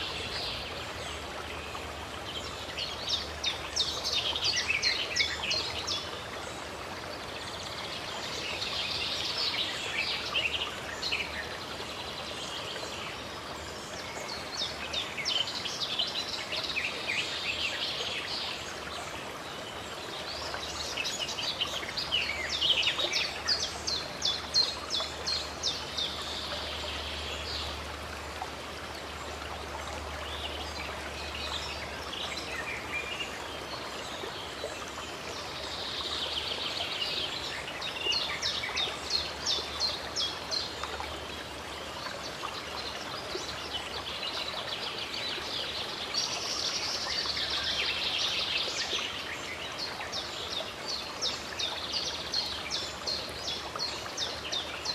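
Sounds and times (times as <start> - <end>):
running water rushing: 0.0 - 54.9.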